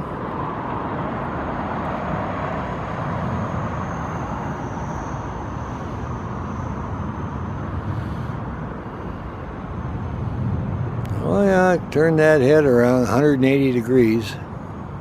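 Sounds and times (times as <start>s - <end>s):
faint high whine: 0.0s - 15.0s
passing traffic rumble: 0.0s - 15.0s.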